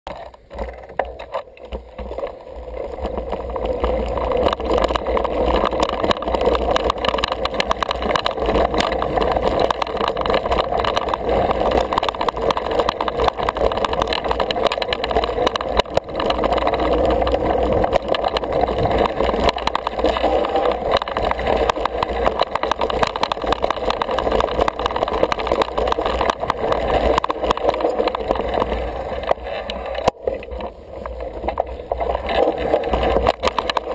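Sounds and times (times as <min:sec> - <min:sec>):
bike rattling over rough trail: 0:00.1 - 0:33.9.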